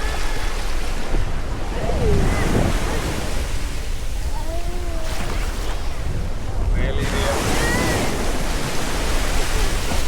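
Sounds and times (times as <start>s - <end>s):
ocean surf washing onto beach: 0.0s - 10.0s
wind buffeting microphone: 0.0s - 10.0s.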